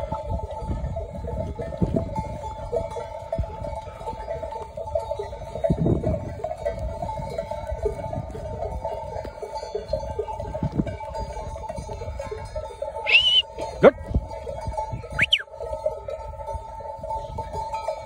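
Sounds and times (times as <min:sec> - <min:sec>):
sheep bells jangling: 0:00.0 - 0:18.0.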